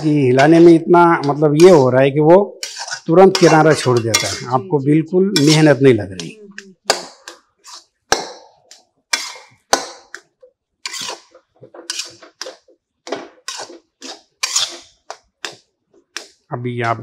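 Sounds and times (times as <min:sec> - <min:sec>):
metal spatula scraping a pan: 0:00.0 - 0:02.0, 0:02.6 - 0:04.6, 0:05.4 - 0:17.0.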